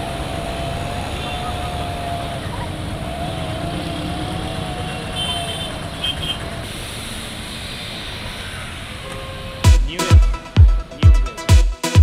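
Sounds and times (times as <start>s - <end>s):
motorcycle engines: 0.0s - 10.0s.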